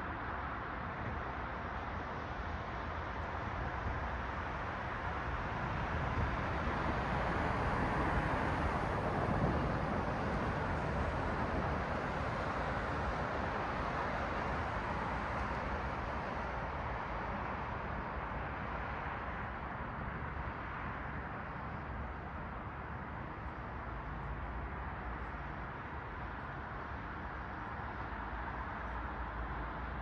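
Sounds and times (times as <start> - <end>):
steady traffic hum: 0.0 - 30.0.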